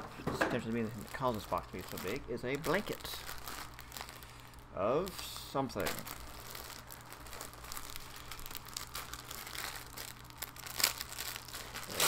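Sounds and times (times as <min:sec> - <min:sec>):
plastic bag crinkling: 0:00.6 - 0:12.0.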